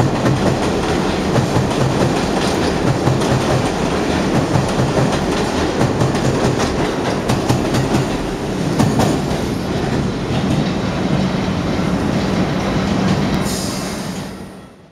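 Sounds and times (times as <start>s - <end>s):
train wheels clacking over rail joints: 0.0s - 14.3s
train low hum: 0.0s - 14.9s.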